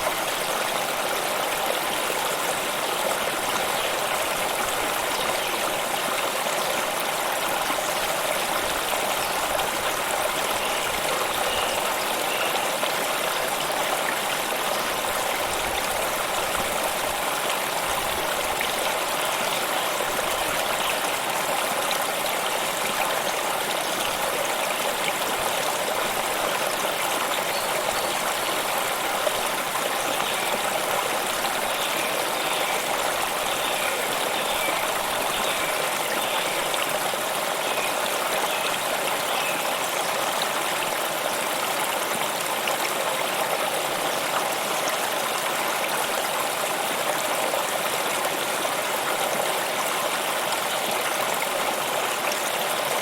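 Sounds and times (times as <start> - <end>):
stream of running water: 0.0 - 53.0.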